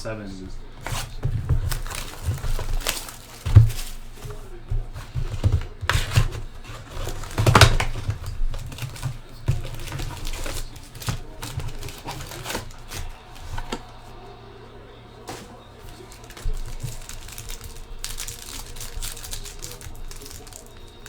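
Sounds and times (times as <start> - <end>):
foil packs crinkling and clicking: 0.0 - 21.0.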